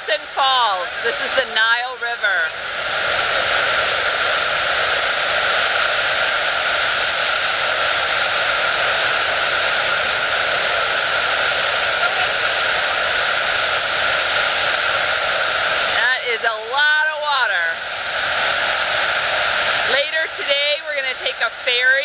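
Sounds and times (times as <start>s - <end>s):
whitewater rushing over rocks: 0.0s - 22.0s.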